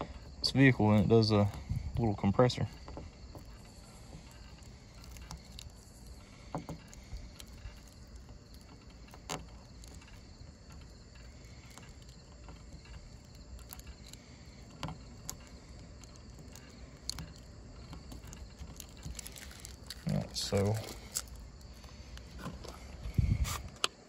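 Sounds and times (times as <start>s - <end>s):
fingernail peeling vinyl off glass: 0.0s - 24.0s.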